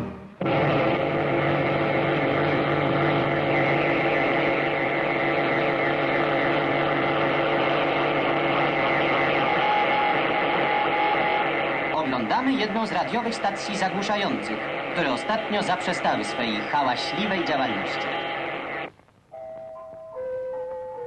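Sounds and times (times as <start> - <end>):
radio jamming buzzing drone: 0.4 - 19.1
high steady tone: 0.4 - 21.0.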